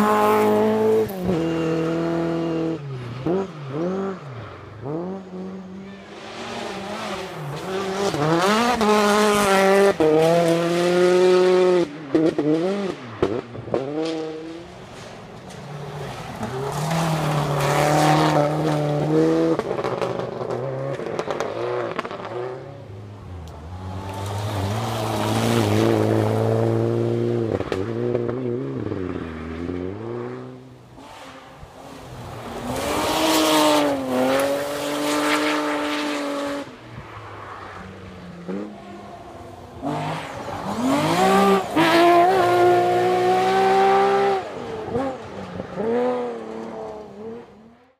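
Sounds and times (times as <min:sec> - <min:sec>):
rally cars passing revving: 0:00.0 - 0:47.9.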